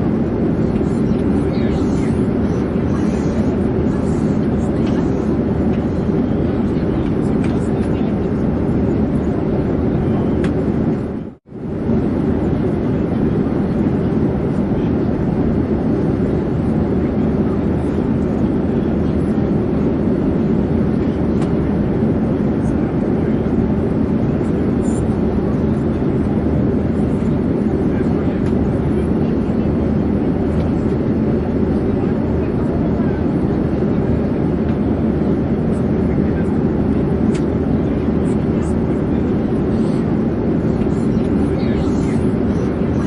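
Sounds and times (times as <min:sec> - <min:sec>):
airplane rumble and hiss: 0:00.0 - 0:43.0.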